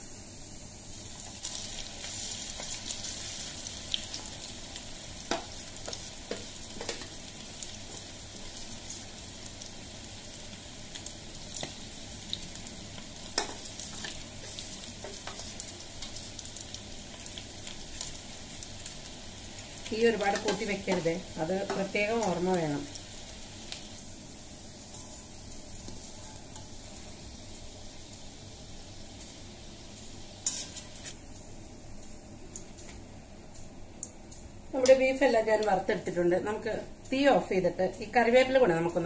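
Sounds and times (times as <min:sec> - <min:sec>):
meat sizzling in hot oil: 0:00.0 - 0:32.6.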